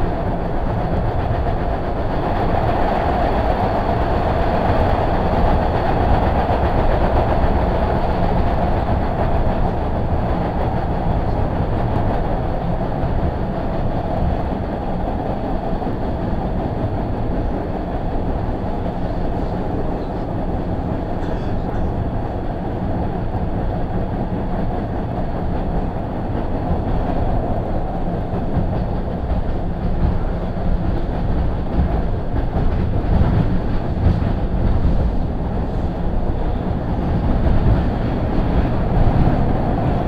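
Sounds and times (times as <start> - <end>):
subway car wheels rumbling on rail: 0.0 - 40.0.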